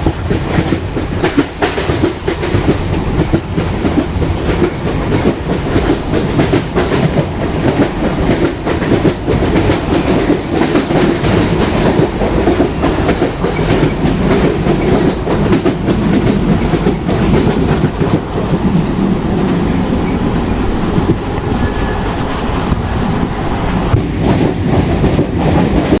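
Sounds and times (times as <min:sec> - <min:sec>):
train rumbling on rails: 0:00.0 - 0:26.0
wheels clacking over rail joints: 0:00.0 - 0:26.0.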